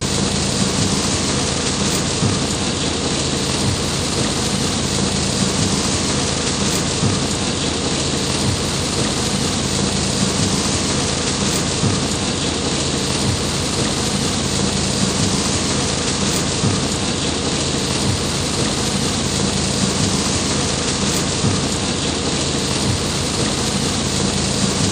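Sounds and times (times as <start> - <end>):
heavy rain on car roof: 0.0 - 24.9.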